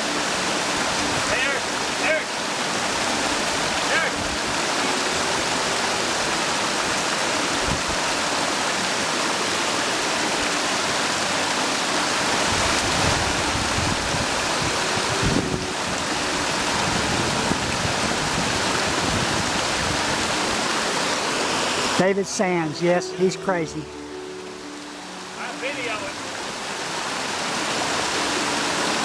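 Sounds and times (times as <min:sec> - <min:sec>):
water rushing over rock: 0:00.0 - 0:29.0.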